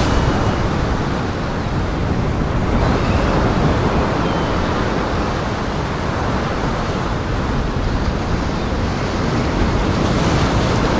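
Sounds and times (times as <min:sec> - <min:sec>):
waves breaking against pier: 0:00.0 - 0:10.9.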